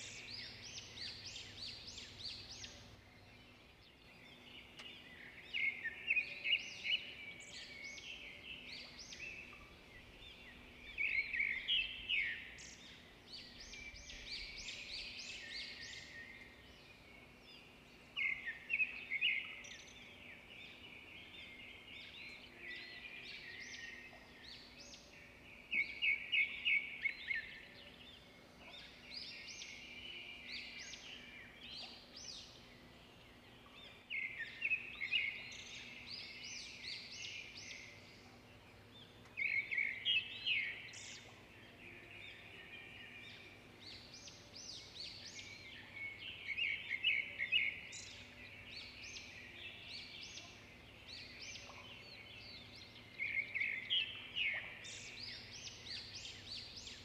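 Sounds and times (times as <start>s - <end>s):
small birds twittering: 0.0s - 57.0s.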